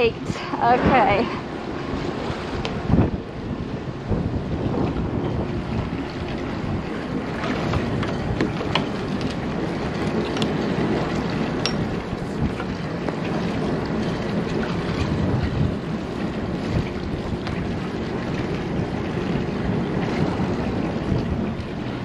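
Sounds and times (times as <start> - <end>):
water moving along boat hull: 0.0 - 22.0
wind noise on microphone: 0.0 - 22.0.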